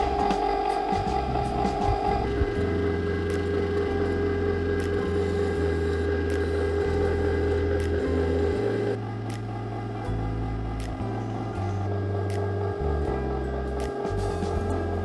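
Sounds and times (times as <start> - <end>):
slow bass line: 0.0 - 15.0
steady hum: 0.0 - 15.0.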